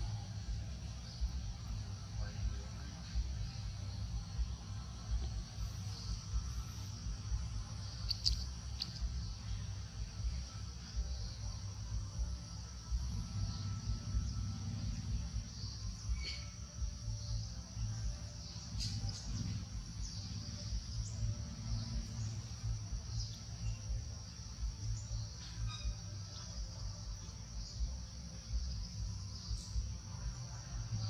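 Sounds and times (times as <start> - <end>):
high-pitched insect chorus: 0.0 - 31.0
low rumbling microphone noise: 0.0 - 31.0.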